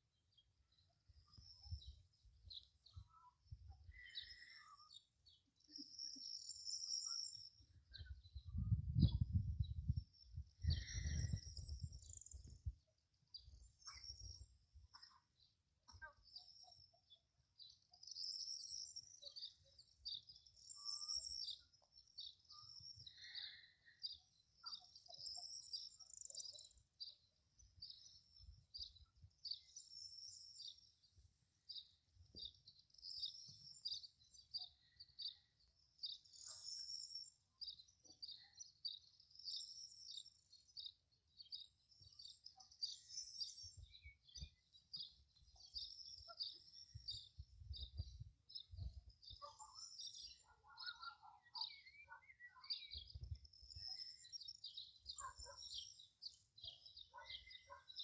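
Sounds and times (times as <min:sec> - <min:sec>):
birds chirping: 0:00.2 - 0:58.0.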